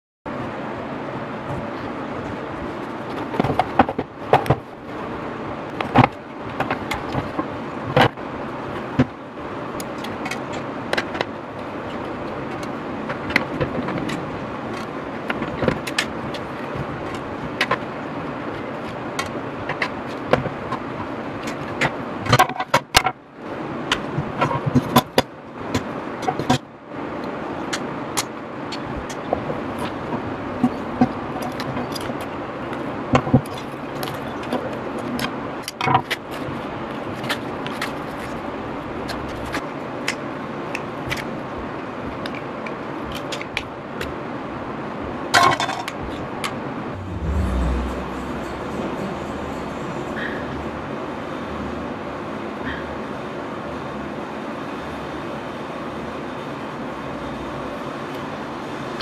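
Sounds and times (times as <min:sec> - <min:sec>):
background hiss and rumble: 0:00.3 - 0:59.0.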